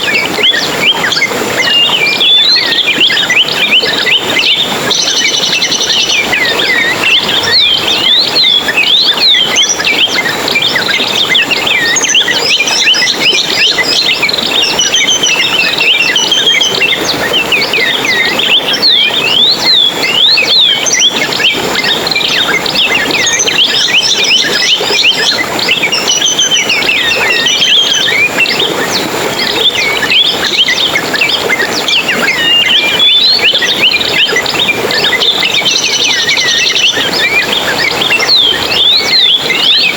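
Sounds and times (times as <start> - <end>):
songbirds twittering and chirping: 0.0 - 39.9.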